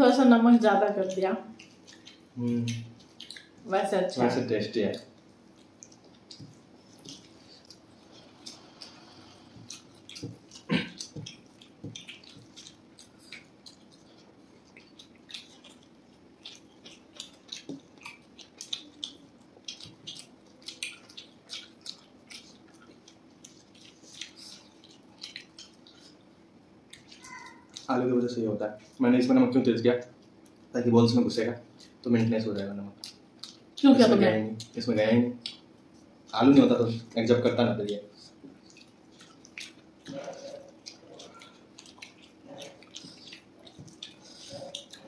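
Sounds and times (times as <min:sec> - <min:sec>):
faint steady hum: 0:00.0 - 0:45.0
food squishing by hand: 0:00.6 - 0:45.0
wet chewing and mouth clicks: 0:00.9 - 0:45.0.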